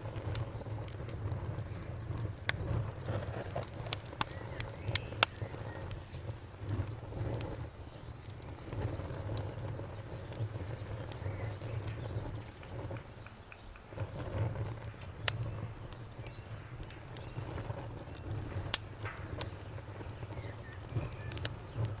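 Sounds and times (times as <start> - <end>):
campfire crackling: 0.0 - 22.0
cricket chirping: 0.0 - 22.0.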